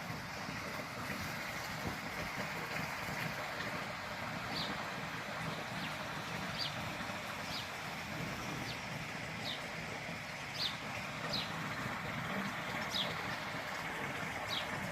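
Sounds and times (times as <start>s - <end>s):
rushing outdoor noise: 0.0s - 14.9s.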